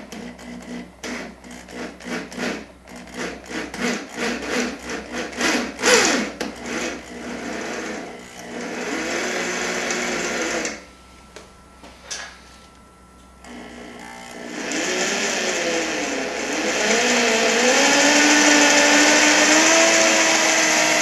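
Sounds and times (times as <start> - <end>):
steady continuous tool sound: 0.0 - 21.0.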